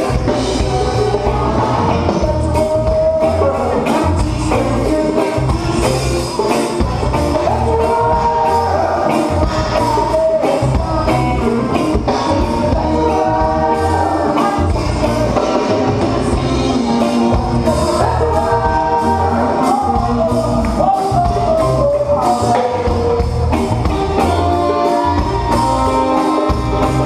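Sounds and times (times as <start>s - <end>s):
live reggae band: 0.0s - 27.0s.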